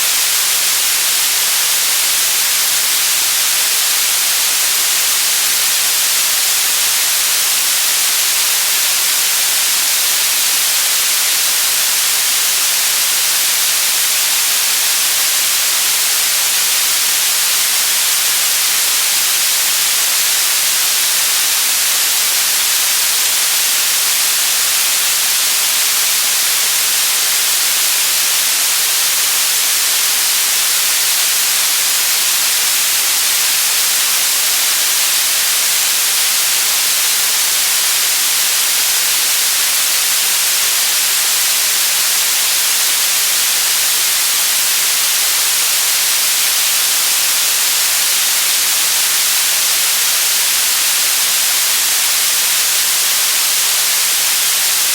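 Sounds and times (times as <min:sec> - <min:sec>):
white noise hiss: 0:00.0 - 0:54.9.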